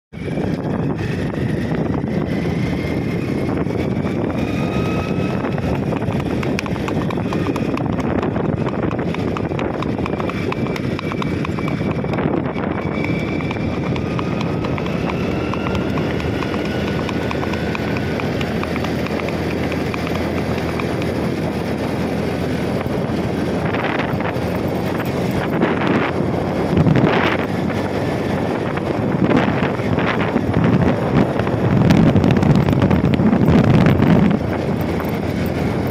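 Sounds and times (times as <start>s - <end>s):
vehicle engine and wind noise: 0.1s - 35.9s
horse hooves clip-clopping: 3.3s - 35.9s.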